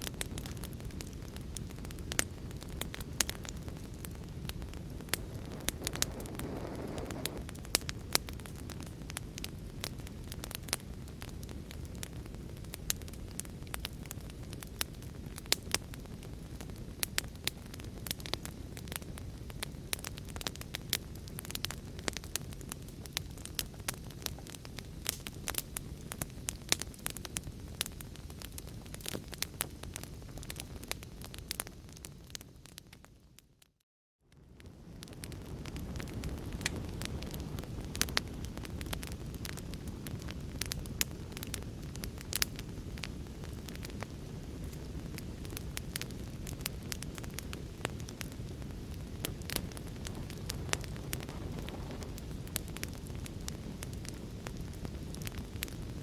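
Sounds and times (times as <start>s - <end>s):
low rumble of burning: 0.0s - 56.0s
wood fire crackling: 0.0s - 56.0s.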